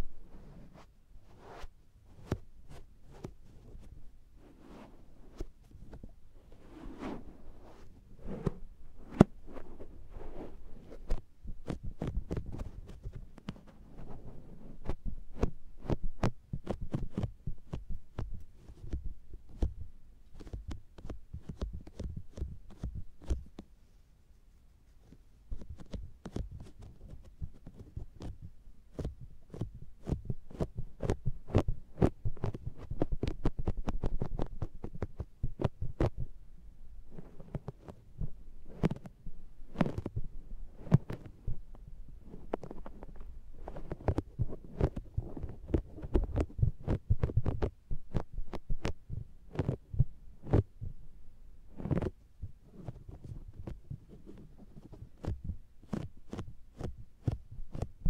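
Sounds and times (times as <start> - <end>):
sponge patting microphone: 0.0 - 23.8, 24.5 - 36.4, 37.1 - 51.0, 51.7 - 58.0.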